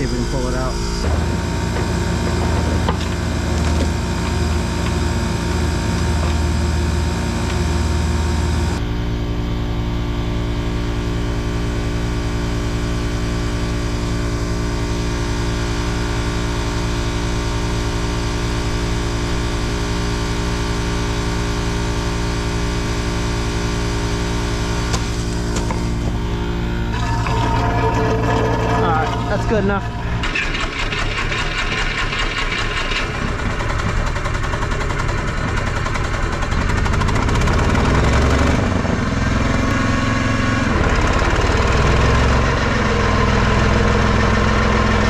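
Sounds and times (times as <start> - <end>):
heavy machinery engine idling: 0.0 - 9.2, 14.1 - 45.0.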